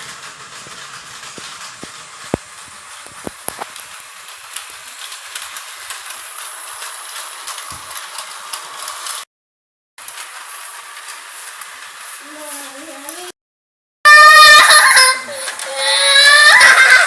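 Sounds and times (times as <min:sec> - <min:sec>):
toy train rattling on track: 0:00.0 - 0:09.2, 0:10.0 - 0:13.4, 0:14.1 - 0:17.0.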